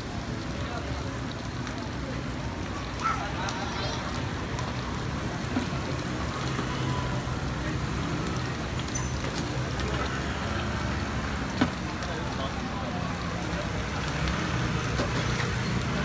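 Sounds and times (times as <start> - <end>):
batter sizzling on a griddle: 0.0 - 16.0.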